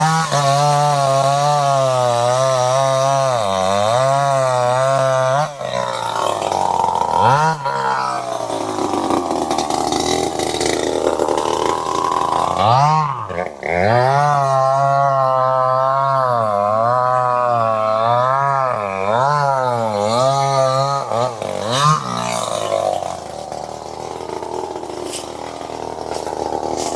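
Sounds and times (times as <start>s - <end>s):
chainsaw cutting wood: 0.0s - 26.9s
chainsaw engine buzzing: 0.0s - 26.9s.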